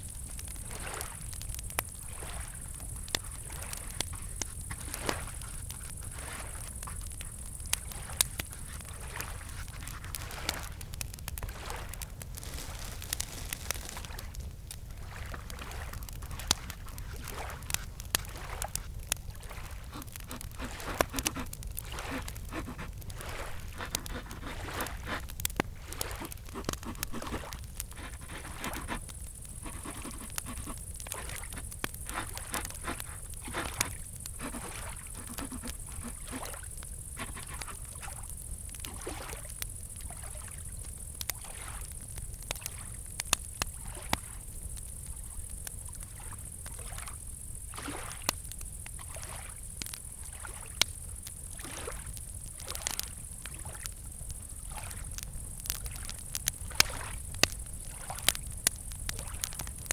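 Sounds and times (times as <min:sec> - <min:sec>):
campfire crackling and popping: 0:00.0 - 0:59.9
crickets chirping: 0:00.0 - 0:59.9
water lapping: 0:00.2 - 0:40.6, 0:41.3 - 0:41.9, 0:43.8 - 0:44.4, 0:45.9 - 0:48.3, 0:49.0 - 0:50.8, 0:51.5 - 0:59.9.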